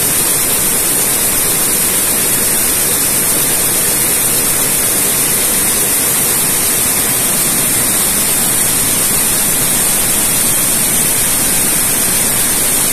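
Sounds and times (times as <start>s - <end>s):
weaving loom running: 0.0s - 12.9s.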